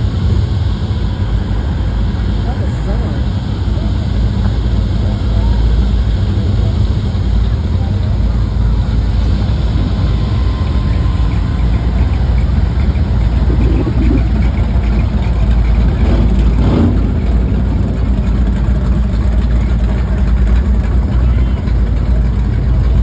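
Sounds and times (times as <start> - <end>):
car engines rumbling past: 0.0 - 23.0.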